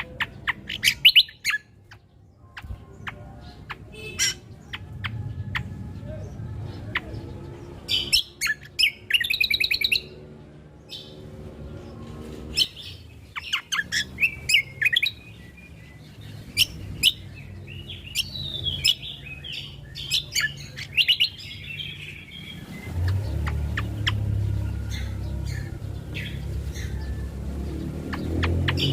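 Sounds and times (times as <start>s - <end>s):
songbird singing: 0.0s - 28.9s.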